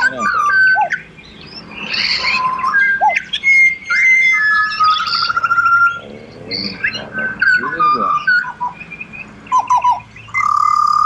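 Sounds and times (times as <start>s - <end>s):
birds whistling: 0.0s - 11.0s.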